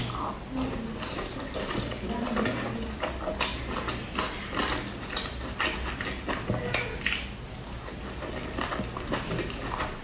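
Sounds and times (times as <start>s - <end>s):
person chewing wetly: 0.0s - 10.0s.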